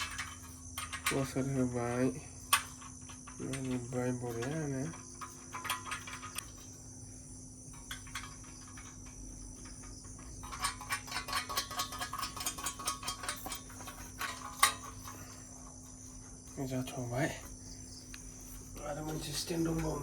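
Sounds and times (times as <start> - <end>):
nuts and bolts clicking: 0.0 - 7.0, 7.6 - 20.0
crickets chirping: 0.0 - 20.0.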